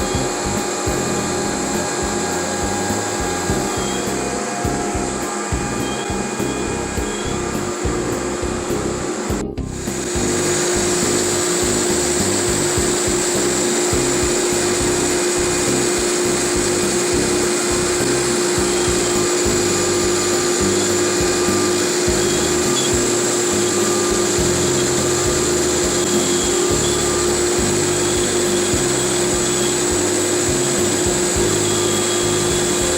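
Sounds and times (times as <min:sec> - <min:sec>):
dust extraction rushing: 0:00.0 - 0:32.9
router cutting wood: 0:00.0 - 0:32.9
router spindle whine: 0:00.0 - 0:32.9.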